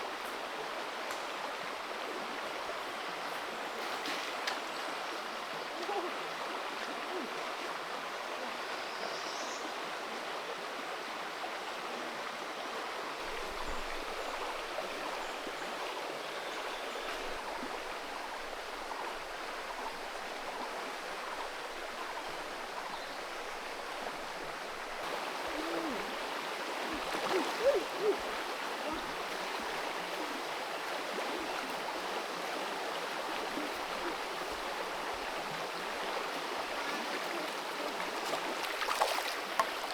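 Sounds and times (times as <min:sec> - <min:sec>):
creek water flowing over stones: 0:00.0 - 0:09.0, 0:09.6 - 0:39.9.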